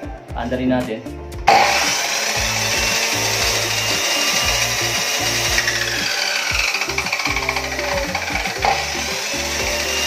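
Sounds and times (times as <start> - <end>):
cut-off machine motor and disc running: 1.5 - 10.0.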